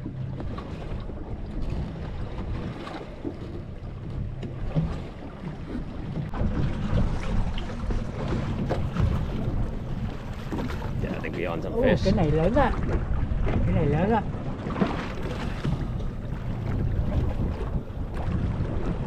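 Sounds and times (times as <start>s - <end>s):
fishing boat engine rumble: 0.0s - 19.0s
wind on microphone: 0.0s - 19.0s.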